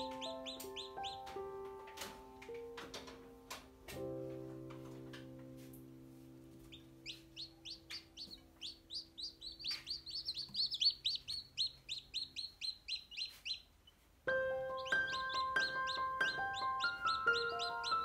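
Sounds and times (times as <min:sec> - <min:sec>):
chicks peeping: 0:00.0 - 0:03.1, 0:06.6 - 0:18.0.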